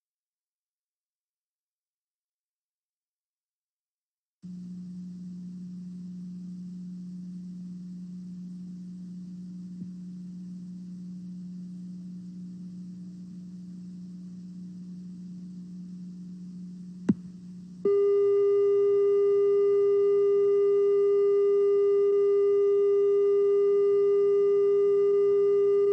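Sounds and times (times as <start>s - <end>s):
electrical hum: 4.4s - 25.9s
loud steady tone: 4.5s - 25.9s.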